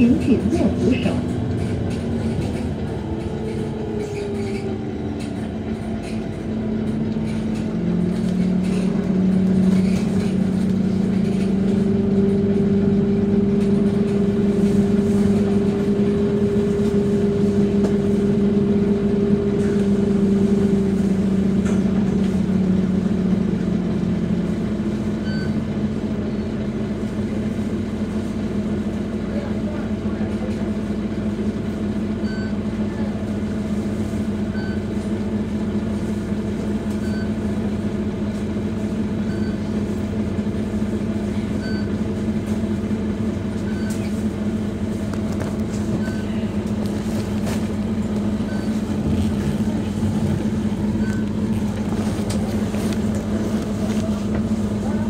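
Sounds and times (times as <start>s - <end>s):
bus engine humming: 0.0s - 55.0s.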